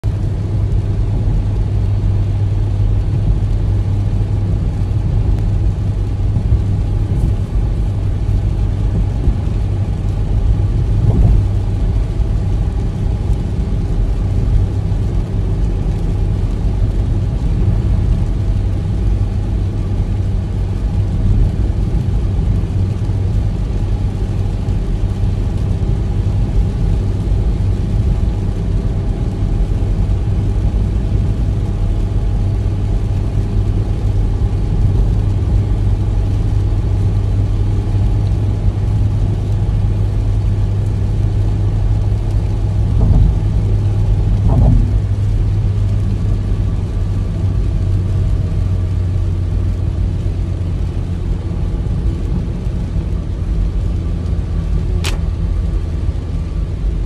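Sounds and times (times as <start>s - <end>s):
car engine and tyres on wet road: 0.0s - 57.0s
rain and spray hiss: 0.1s - 57.0s.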